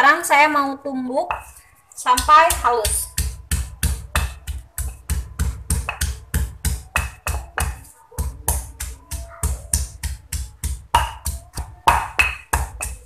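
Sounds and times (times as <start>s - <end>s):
stone pestle pounding in mortar: 2.2s - 13.0s.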